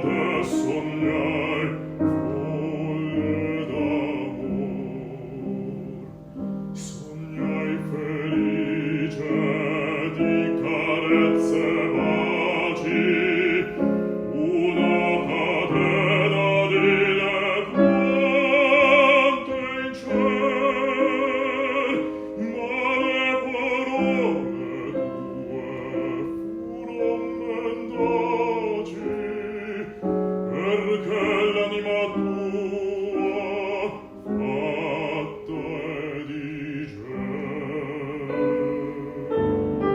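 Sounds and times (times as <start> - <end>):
piano accompaniment: 0.0 - 39.9.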